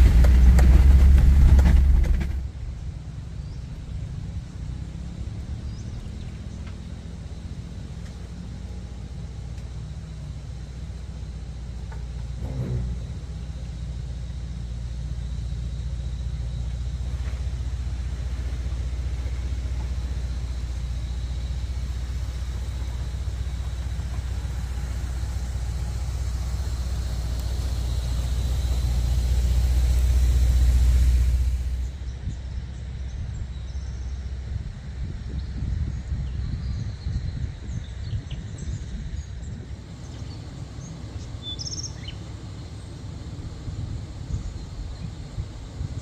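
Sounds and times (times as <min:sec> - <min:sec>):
car engine at low revs: 0:00.0 - 0:46.0.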